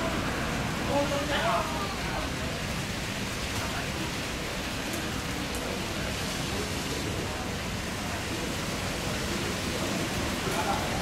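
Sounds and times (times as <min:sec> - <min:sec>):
rain rushing: 0:00.0 - 0:11.0.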